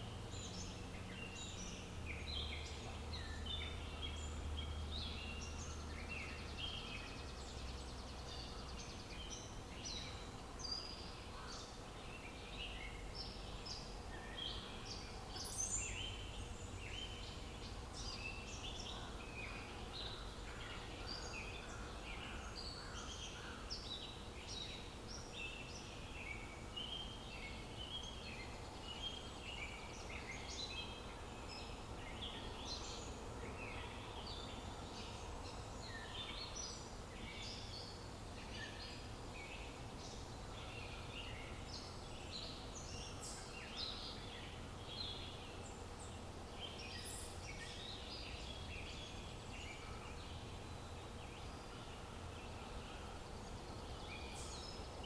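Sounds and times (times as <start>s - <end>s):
low background hiss: 0.0s - 55.0s
small birds chirping: 0.0s - 55.0s.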